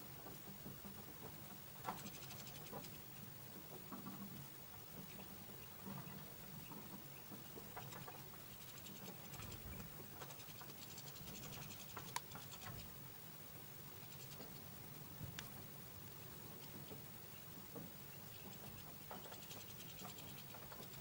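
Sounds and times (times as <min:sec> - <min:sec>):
beaks pecking seeds: 0:00.2 - 0:21.0.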